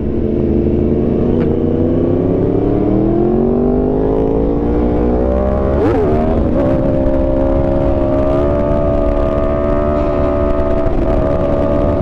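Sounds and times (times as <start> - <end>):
motorcycle engine accelerating: 0.0 - 12.0
wind rumble on microphone: 0.0 - 12.0.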